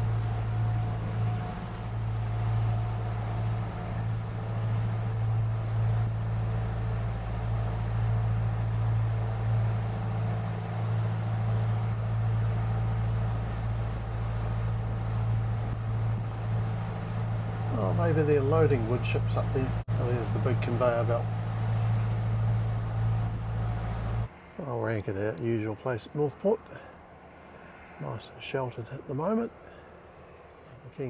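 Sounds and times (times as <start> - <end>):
boat diesel engines droning: 0.0 - 31.0.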